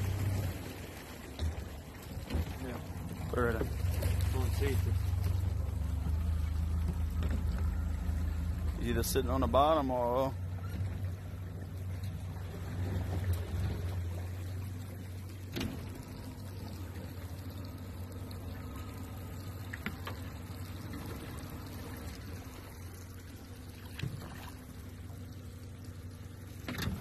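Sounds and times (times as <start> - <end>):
steady low rumble: 0.0 - 27.0
water trickling and splashing: 0.0 - 27.0.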